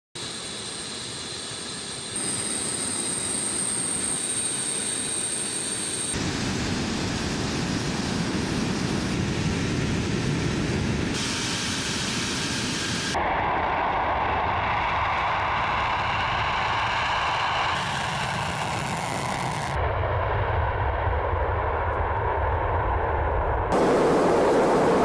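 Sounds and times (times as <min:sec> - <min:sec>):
jet engines whining: 0:00.2 - 0:25.0.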